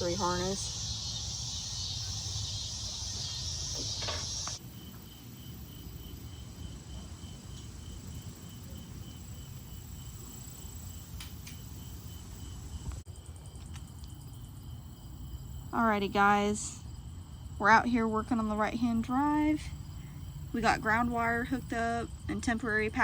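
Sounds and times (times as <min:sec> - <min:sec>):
cricket chirping: 0:00.0 - 0:23.0
dense high insect hiss: 0:00.0 - 0:23.0.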